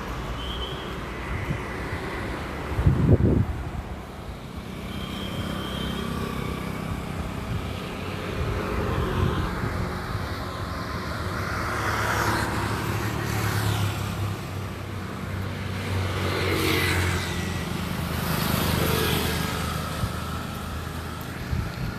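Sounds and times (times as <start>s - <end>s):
vehicles passing by: 0.0s - 21.9s.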